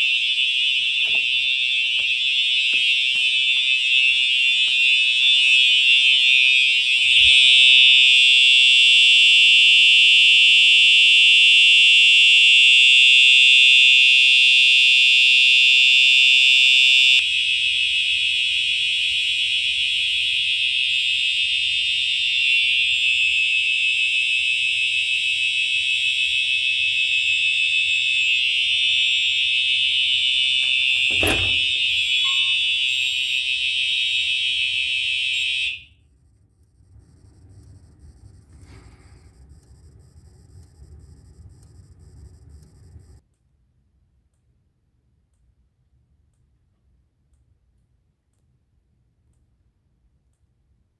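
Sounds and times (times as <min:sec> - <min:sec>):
high-pitched fire alarm tone: 0:00.0 - 0:43.2.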